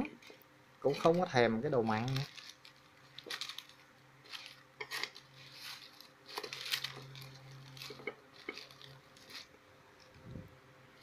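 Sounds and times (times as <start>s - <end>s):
rice paper rustling: 0.9s - 10.2s.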